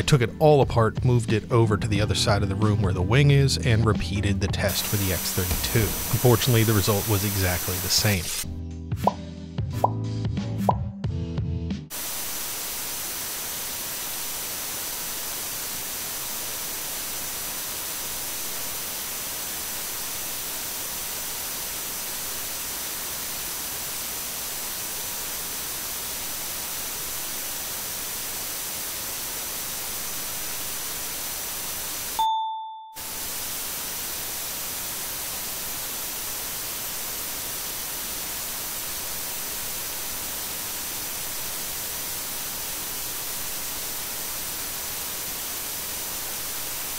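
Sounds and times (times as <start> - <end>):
preamp hiss: 4.6 - 8.5, 11.9 - 32.2, 33.0 - 46.9.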